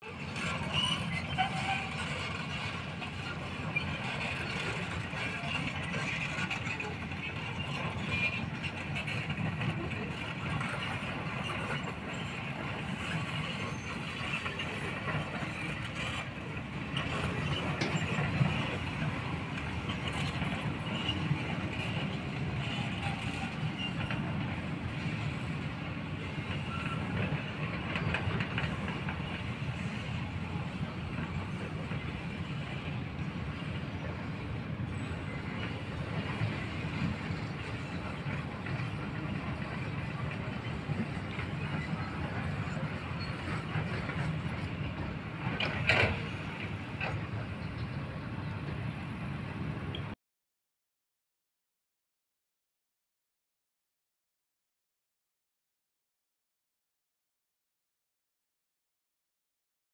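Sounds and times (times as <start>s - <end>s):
excavator diesel engine rumbling: 0.0s - 50.2s.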